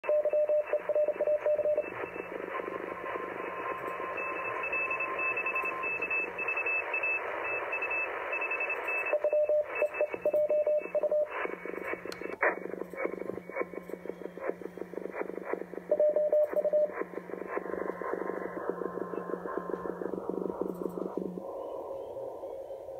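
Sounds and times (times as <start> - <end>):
faint morse code: 0.0 - 12.4, 13.0 - 21.4
morse code tones: 0.0 - 21.4
radio band hiss: 0.1 - 22.9.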